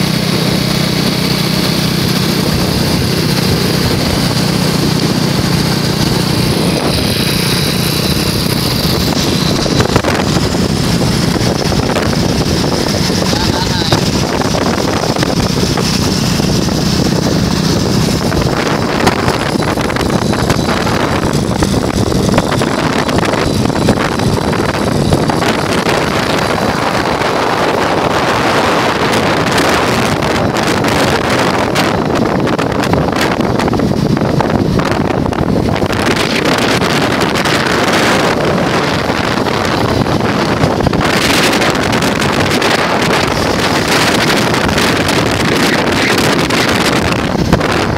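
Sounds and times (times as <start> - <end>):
low hum: 0.0 - 47.9
wind buffeting microphone: 0.0 - 47.9.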